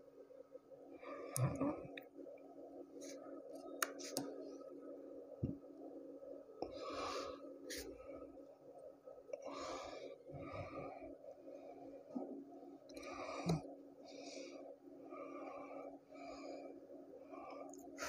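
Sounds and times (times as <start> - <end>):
small fan humming: 0.0 - 18.0.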